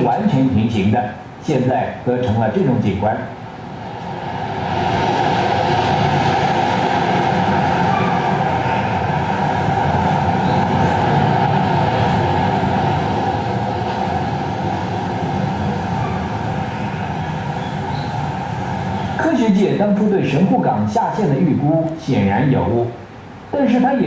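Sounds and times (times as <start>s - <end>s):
train rumbling on tracks: 2.0s - 23.5s.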